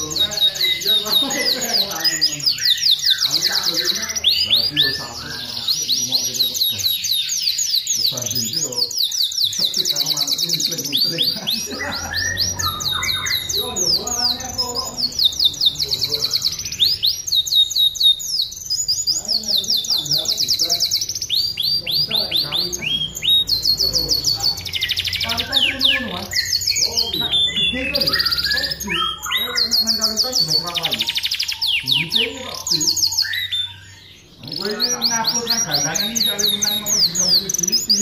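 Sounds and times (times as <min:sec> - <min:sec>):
canary singing: 0:00.0 - 0:38.0.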